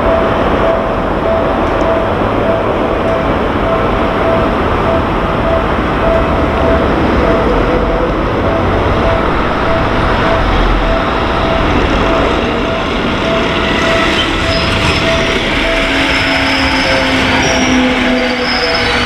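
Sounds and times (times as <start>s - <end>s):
level-crossing warning bell: 0.0s - 19.0s
train wheels rumbling on rails: 0.0s - 19.0s.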